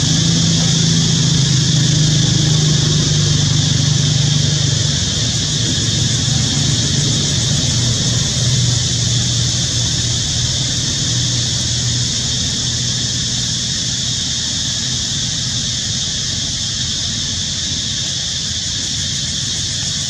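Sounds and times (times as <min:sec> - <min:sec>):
high-pitched hiss: 0:00.0 - 0:20.0
low engine-like hum: 0:00.0 - 0:20.0.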